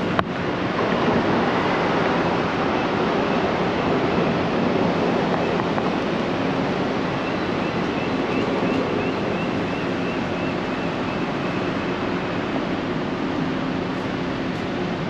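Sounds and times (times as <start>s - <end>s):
construction site noise: 0.0s - 15.0s.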